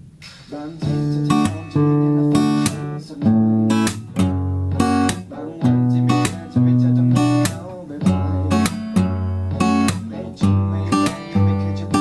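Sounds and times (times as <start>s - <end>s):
guitar strumming chords: 0.5s - 12.0s.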